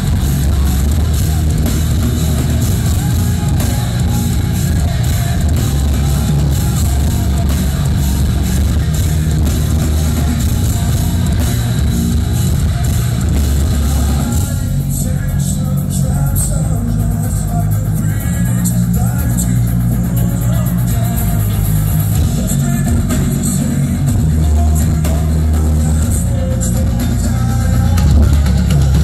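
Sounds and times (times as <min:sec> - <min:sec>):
bass guitar: 0:00.0 - 0:29.0
distorted electric guitars: 0:00.0 - 0:29.0
drum kit: 0:00.0 - 0:29.0.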